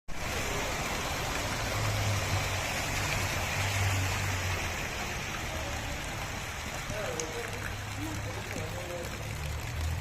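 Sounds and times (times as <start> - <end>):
heavy rain falling: 0.1 - 10.0.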